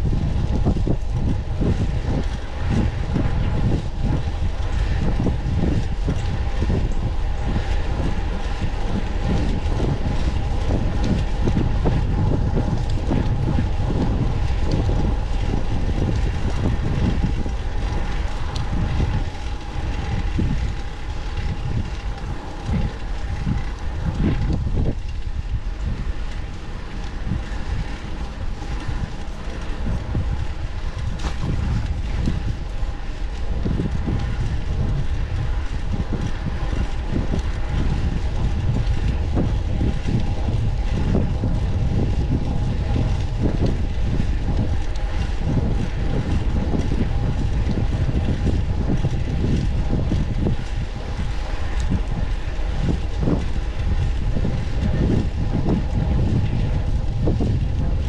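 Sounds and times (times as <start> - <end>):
bicycle road rumble: 0.0 - 58.0
faint steady whine: 0.0 - 58.0
wind buffeting microphone: 0.0 - 58.0.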